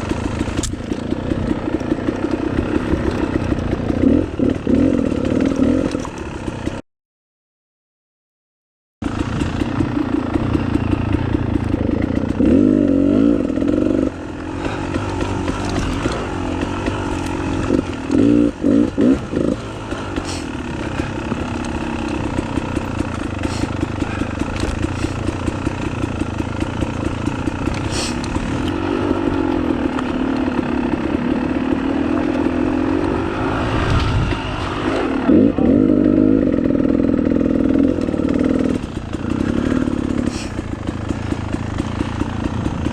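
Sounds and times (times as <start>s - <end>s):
motorcycle engine revving: 0.0s - 6.8s, 9.0s - 42.9s.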